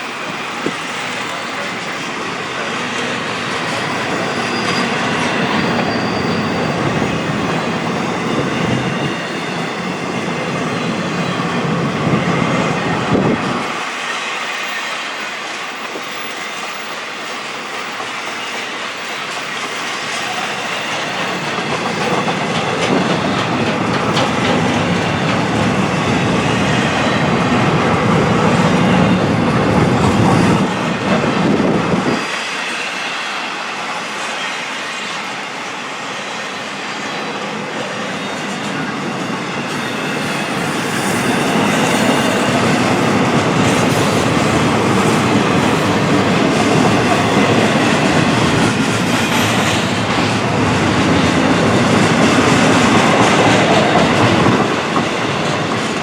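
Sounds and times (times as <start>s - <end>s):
freight train wheels on rail: 0.0s - 56.0s.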